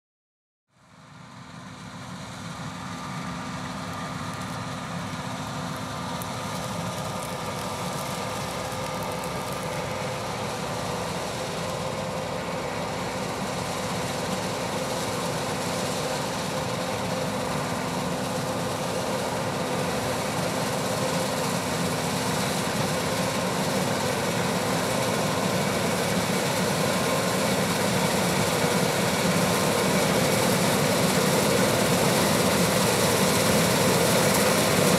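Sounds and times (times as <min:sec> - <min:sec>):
harvest machinery engine drone: 0:00.9 - 0:34.9.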